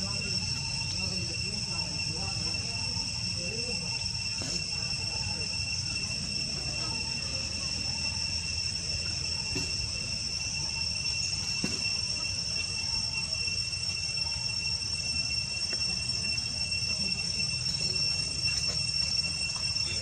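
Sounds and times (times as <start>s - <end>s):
insect chorus high-pitched tones: 0.0s - 20.0s.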